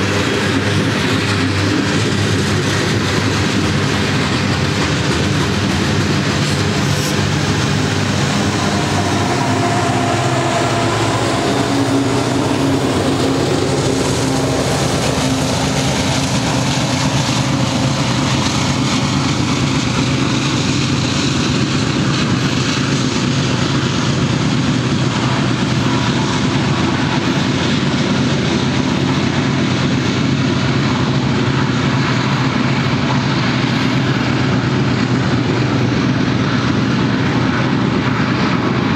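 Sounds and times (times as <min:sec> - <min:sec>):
diesel locomotive engines droning: 0:00.0 - 0:38.9
train wheels rumbling on rails: 0:00.0 - 0:38.9.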